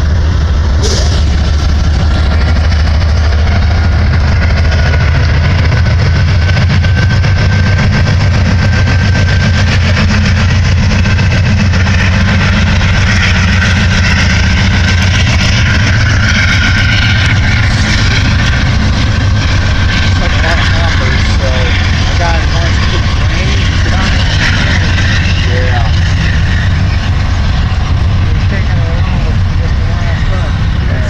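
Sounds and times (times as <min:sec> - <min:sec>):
diesel locomotives rumbling: 0:00.0 - 0:31.0.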